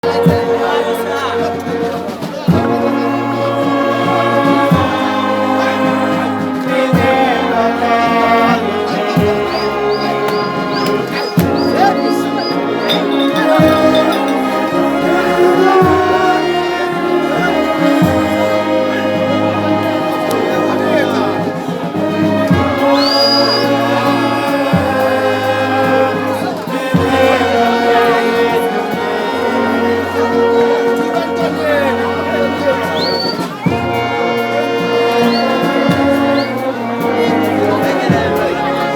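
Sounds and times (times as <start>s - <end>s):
brass band playing slow tune: 0.0s - 38.9s.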